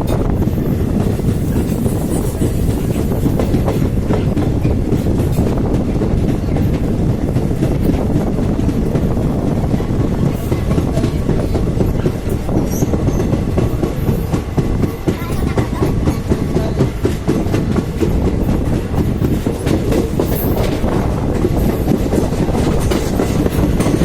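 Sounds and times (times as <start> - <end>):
train rumbling over bridge: 0.0 - 24.0
wheels clacking over rail joints: 0.0 - 24.0.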